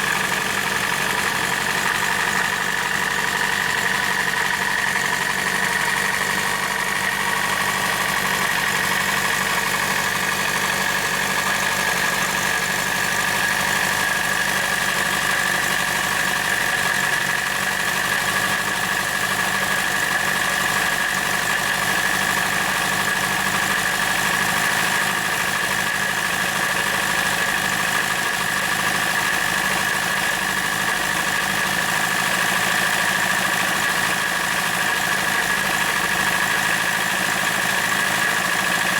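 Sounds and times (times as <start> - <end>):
model engine whirring with whine: 0.0 - 38.9.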